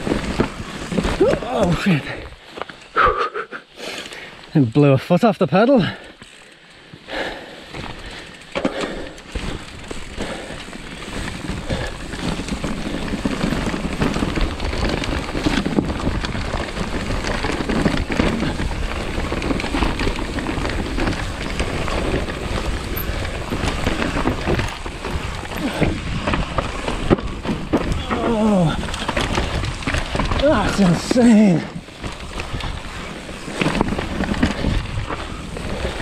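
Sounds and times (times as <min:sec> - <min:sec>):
bike rattling over roots: 0:00.0 - 0:03.0, 0:03.7 - 0:36.0
bike tyres rolling on dirt: 0:00.0 - 0:03.0, 0:03.7 - 0:36.0.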